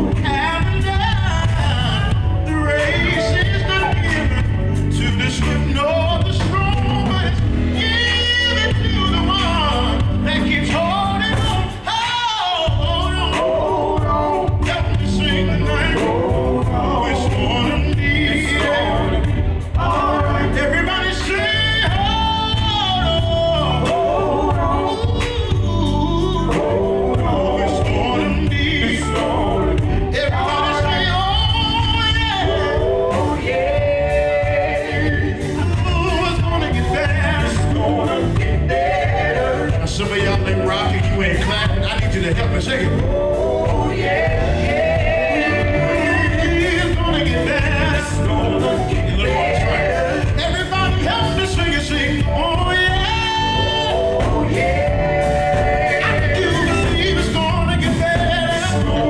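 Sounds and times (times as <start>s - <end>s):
gospel voices singing: 0.0s - 59.0s
instrumental accompaniment with bass: 0.0s - 59.0s.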